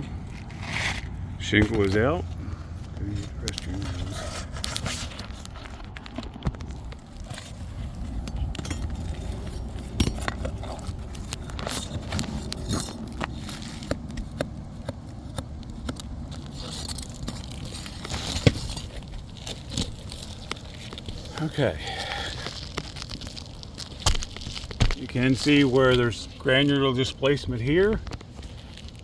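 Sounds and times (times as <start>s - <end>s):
steady low rumble: 0.0s - 26.6s
shingles and tools clicking and scraping: 0.0s - 29.0s.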